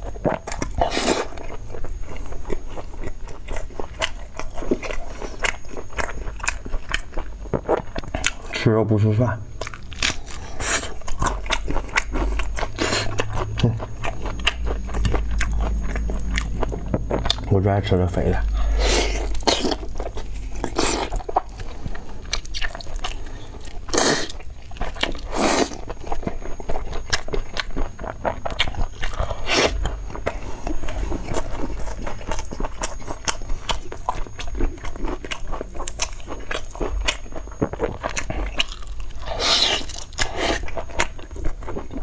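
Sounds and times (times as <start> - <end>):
wet chewing and mouth smacks: 0.0 - 8.5, 9.6 - 17.5, 18.4 - 42.0.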